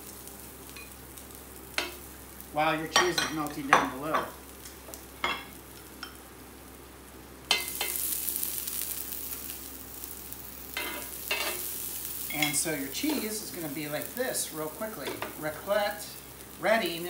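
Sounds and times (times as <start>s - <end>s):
vegetables sizzling on grill: 0.0s - 17.0s.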